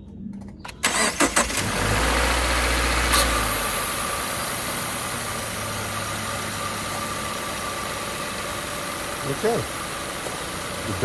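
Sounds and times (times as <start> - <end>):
car engine starting and idling: 0.7 - 11.0.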